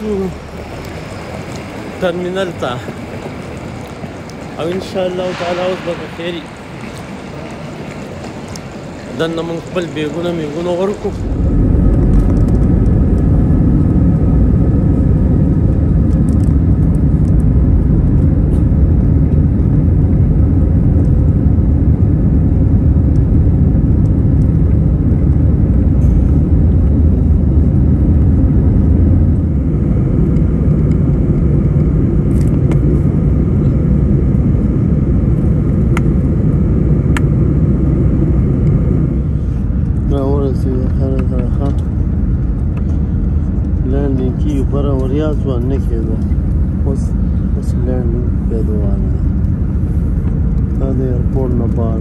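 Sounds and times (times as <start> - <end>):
faint engine whine: 0.0 - 52.0
jet engines rumbling in cabin: 0.0 - 52.0.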